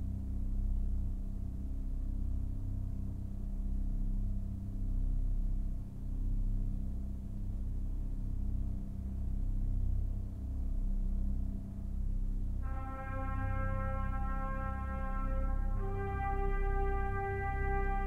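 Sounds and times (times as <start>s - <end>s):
low humming drone: 0.0s - 18.0s.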